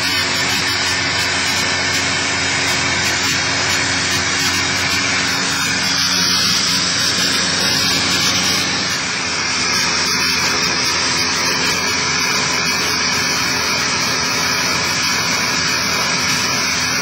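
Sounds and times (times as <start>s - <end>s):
airflow noise: 0.0s - 17.0s
propeller plane engine drone: 0.0s - 17.0s.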